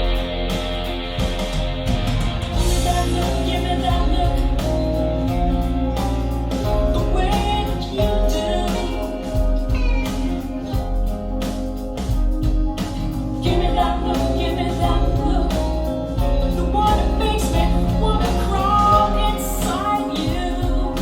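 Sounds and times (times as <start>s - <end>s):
person singing: 0.0s - 11.3s, 13.4s - 21.0s
deep bass: 0.0s - 21.0s
drum hits: 0.0s - 21.0s.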